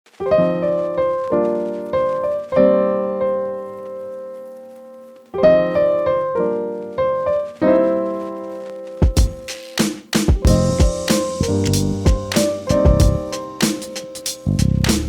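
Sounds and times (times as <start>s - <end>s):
electric piano chords: 0.1s - 15.0s.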